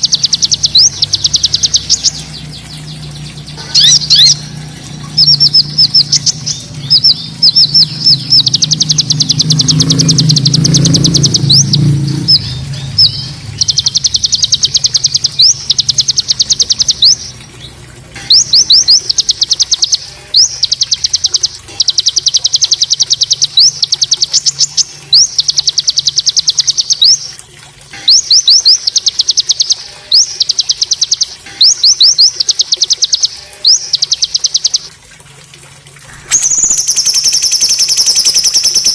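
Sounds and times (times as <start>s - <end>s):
songbird rapid trill: 0.0s - 27.3s, 28.0s - 34.9s, 36.3s - 38.9s.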